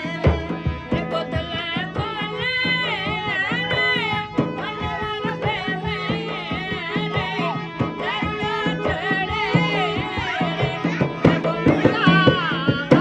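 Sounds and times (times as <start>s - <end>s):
hand drum strokes: 0.0s - 13.0s
man singing: 0.0s - 13.0s.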